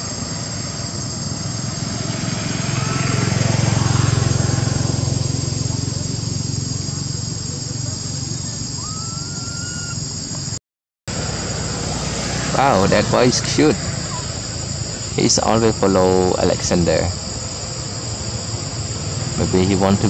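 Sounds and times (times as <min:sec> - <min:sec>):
passing vehicle engine rumble: 0:00.0 - 0:10.3, 0:11.1 - 0:20.0
insects droning: 0:00.0 - 0:20.0.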